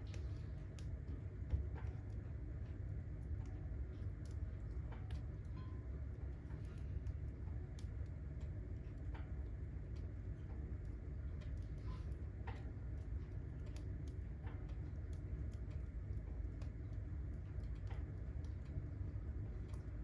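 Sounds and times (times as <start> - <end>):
firewood crackling and popping: 0.0 - 20.0
low steady fire rumble: 0.0 - 20.0.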